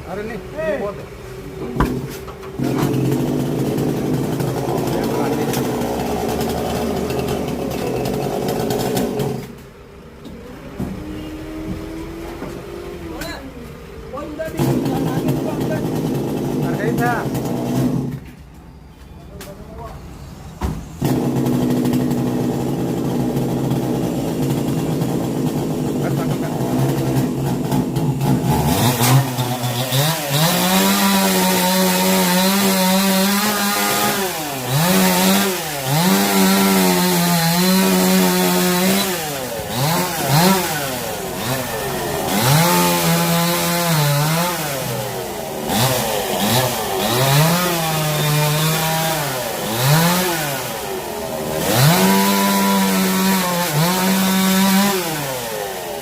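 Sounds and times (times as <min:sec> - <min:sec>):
chainsaw idling and revving: 0:00.1 - 0:18.3, 0:21.0 - 0:56.0.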